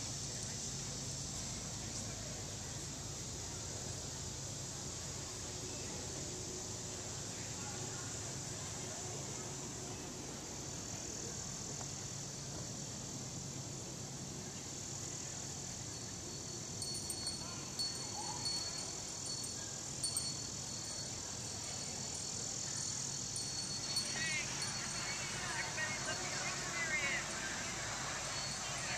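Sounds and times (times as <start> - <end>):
crickets and insects chorus: 0.0 - 28.9.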